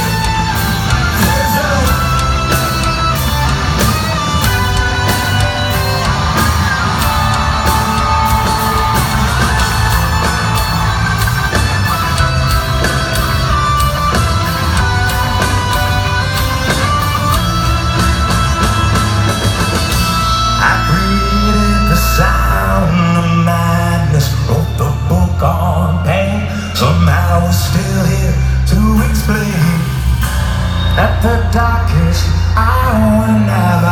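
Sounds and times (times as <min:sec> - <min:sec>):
steady drums: 0:00.0 - 0:23.3, 0:26.9 - 0:33.9
bass guitar: 0:00.0 - 0:33.9
bending lead guitar notes: 0:00.0 - 0:33.9
distorted electric guitars: 0:00.0 - 0:33.9.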